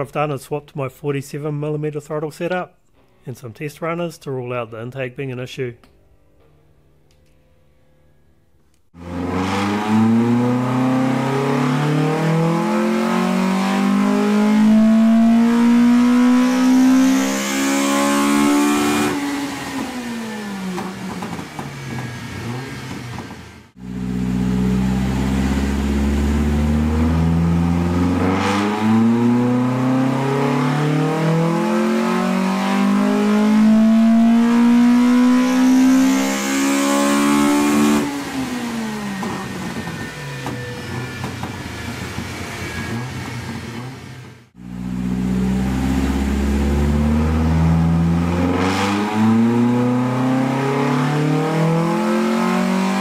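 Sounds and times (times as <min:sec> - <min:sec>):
car engine revving at full throttle: 0:09.0 - 0:53.0.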